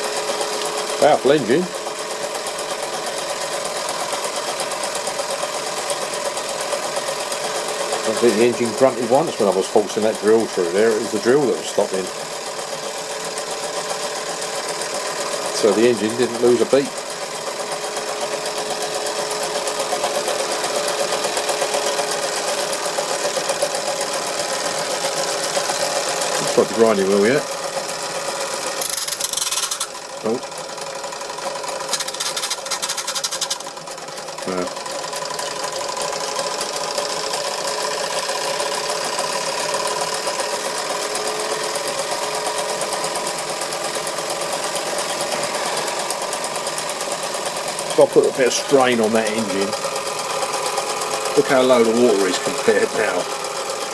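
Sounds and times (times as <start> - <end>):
model steam engine running: 0.0 - 53.9
whirring belt-driven tools: 0.0 - 53.9.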